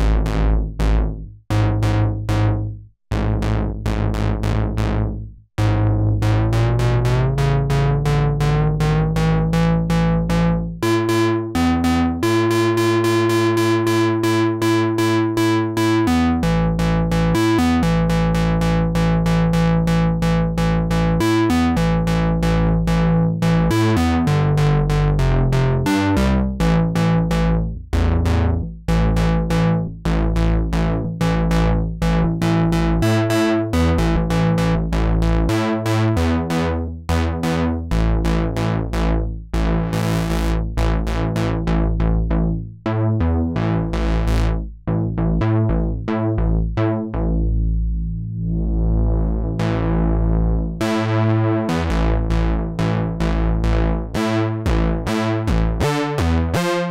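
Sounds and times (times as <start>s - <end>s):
analog synthesizer pulsing notes: 0.0s - 56.9s.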